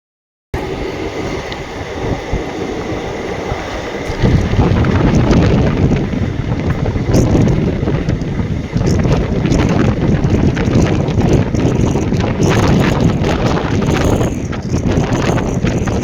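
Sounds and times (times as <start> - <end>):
moving train rumble: 0.6 - 16.0
wind buffeting microphone: 0.6 - 16.0.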